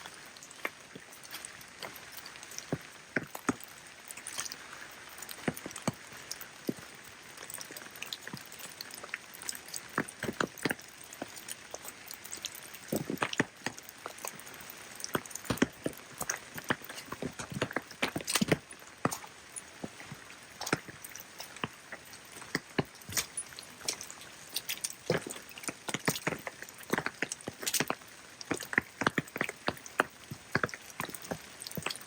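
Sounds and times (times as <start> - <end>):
raindrops tapping: 0.0 - 32.0.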